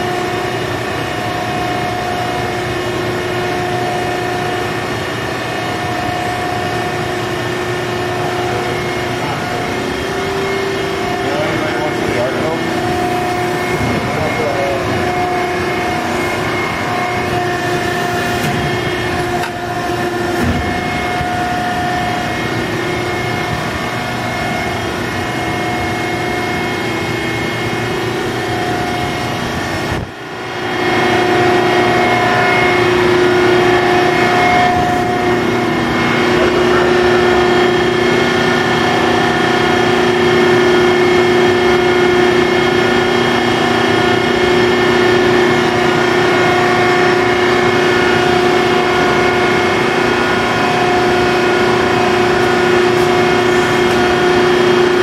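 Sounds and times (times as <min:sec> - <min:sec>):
hydraulic pump humming and whining: 0:00.0 - 0:55.0.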